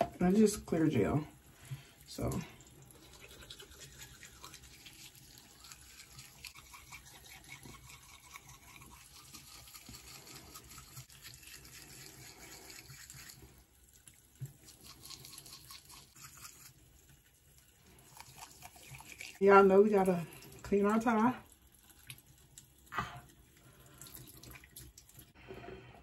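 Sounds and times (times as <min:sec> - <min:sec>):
toothbrush scrubbing teeth: 0:01.7 - 0:25.3.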